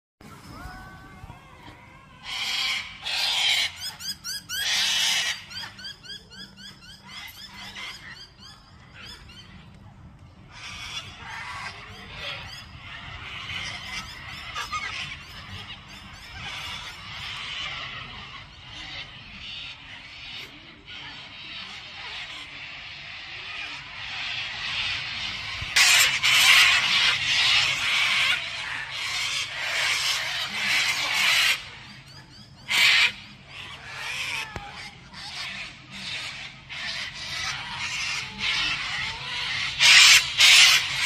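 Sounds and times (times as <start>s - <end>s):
cockatoos screeching: 0.3s - 9.2s, 10.5s - 41.0s.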